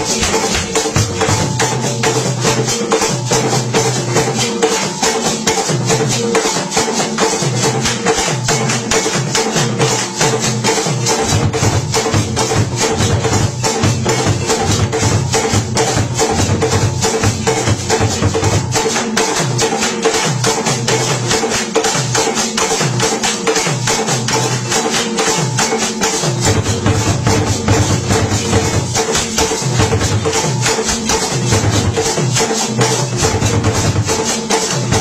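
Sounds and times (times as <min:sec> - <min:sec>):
drum ensemble playing: 0:00.0 - 0:35.0.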